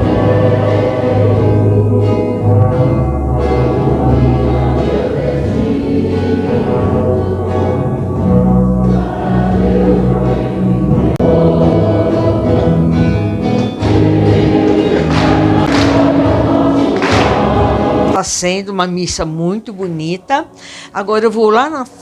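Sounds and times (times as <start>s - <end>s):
instrumental accompaniment: 0.0s - 18.8s
choir singing a hymn: 0.0s - 20.6s.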